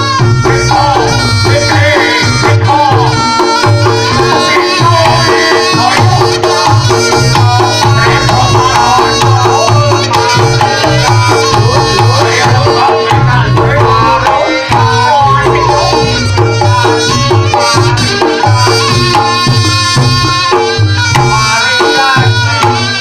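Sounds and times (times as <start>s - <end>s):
hand drums beating: 0.0s - 23.0s
reed horn melody: 0.0s - 23.0s.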